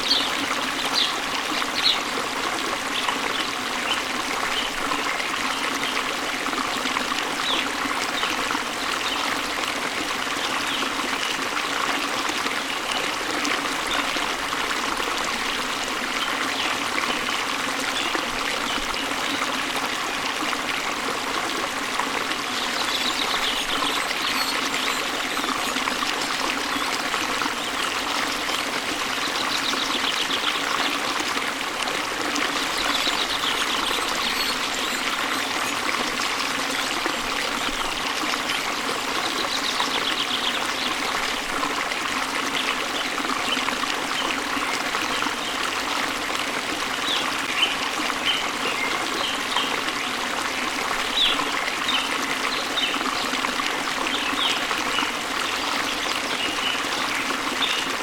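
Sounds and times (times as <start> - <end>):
waterfall and stream running: 0.0 - 58.0.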